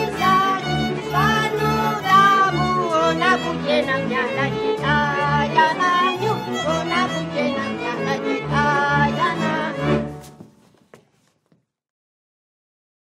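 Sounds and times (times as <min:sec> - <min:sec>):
folk string band playing: 0:00.0 - 0:10.6
fiddle melody with slides: 0:00.0 - 0:10.7.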